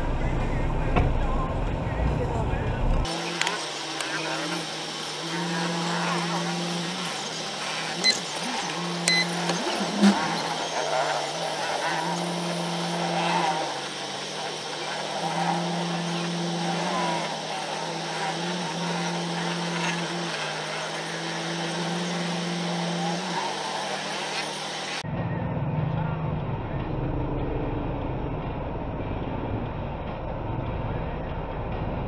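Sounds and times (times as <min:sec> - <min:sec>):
engines idling: 0:00.0 - 0:32.0
indistinct voices: 0:00.0 - 0:32.0
road noise: 0:00.0 - 0:32.0.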